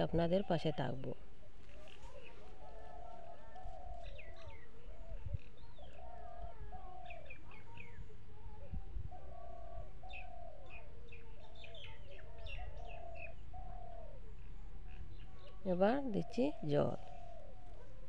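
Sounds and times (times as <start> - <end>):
dove cooing: 0.0 - 18.0
small birds chirping: 0.0 - 18.0.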